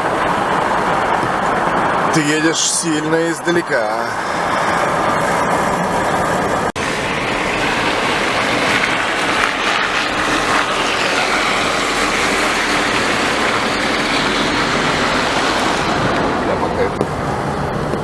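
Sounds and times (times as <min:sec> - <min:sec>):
tyres running through snow: 0:00.0 - 0:18.0.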